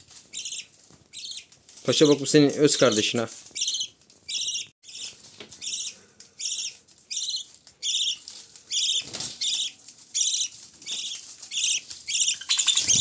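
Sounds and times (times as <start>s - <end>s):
handling rustle: 0.0s - 4.3s, 5.0s - 13.0s.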